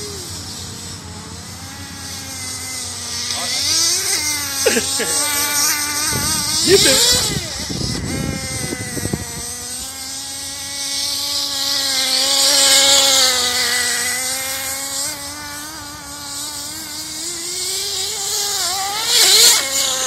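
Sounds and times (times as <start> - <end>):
small engine buzzing whine: 0.0 - 20.0.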